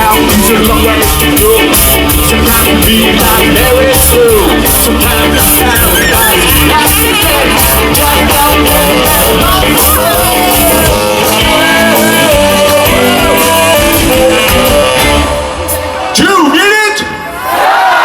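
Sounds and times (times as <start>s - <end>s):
person singing: 0.0s - 16.1s
ska band playing live: 0.0s - 16.2s.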